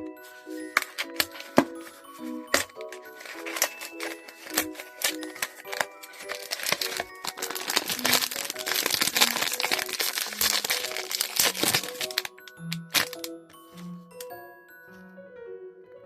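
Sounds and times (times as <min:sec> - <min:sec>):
background music: 0:00.0 - 0:16.0
plastic wrapper crinkling: 0:00.2 - 0:14.3.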